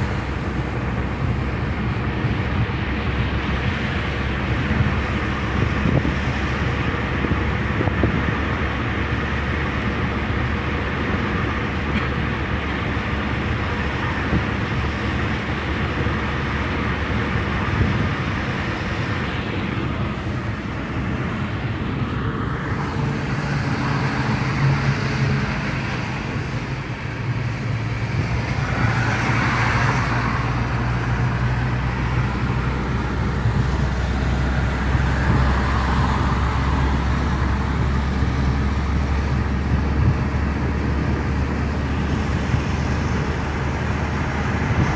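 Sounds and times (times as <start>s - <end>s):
car engine hum: 0.0s - 44.9s
tyre and road noise: 0.0s - 44.9s.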